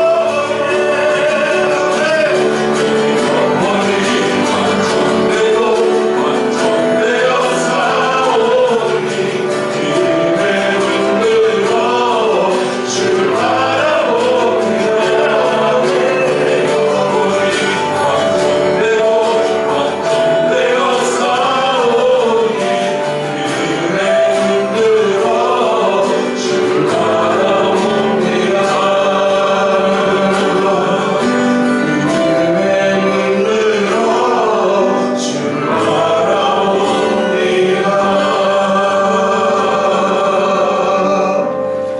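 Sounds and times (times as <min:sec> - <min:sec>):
group singing worship song: 0:00.0 - 0:41.9
instrumental accompaniment: 0:00.0 - 0:41.9.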